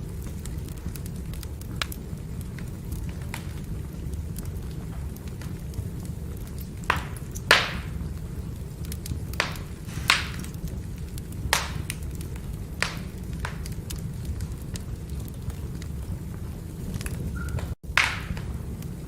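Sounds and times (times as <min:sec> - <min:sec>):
fire crackling pops: 0:00.0 - 0:19.0
firewood burning with low rumble: 0:00.0 - 0:19.0.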